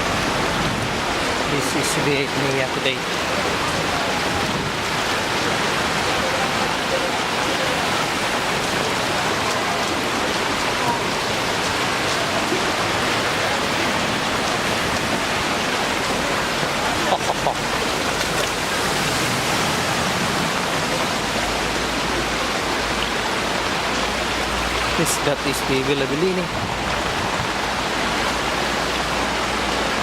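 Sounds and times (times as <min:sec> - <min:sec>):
floodwater rushing down a street: 0:00.0 - 0:30.0.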